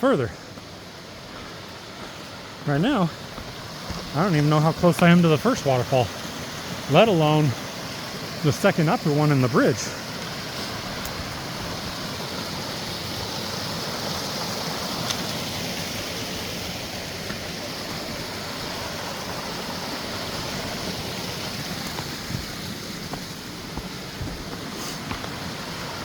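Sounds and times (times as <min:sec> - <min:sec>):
creek rushing: 0:00.0 - 0:26.0.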